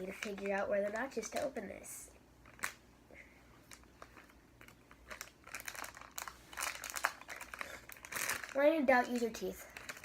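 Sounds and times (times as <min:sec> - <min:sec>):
plastic wrapper crinkling: 0:00.0 - 0:01.8, 0:02.4 - 0:02.9, 0:03.6 - 0:10.0.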